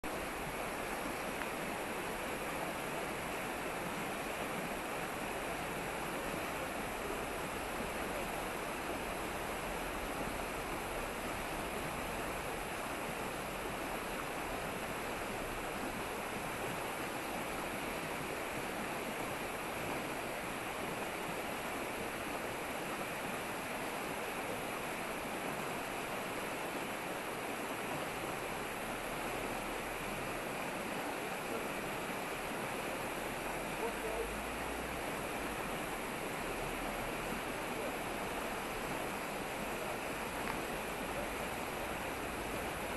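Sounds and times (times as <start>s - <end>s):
river rushing over rocks: 0.1s - 42.9s.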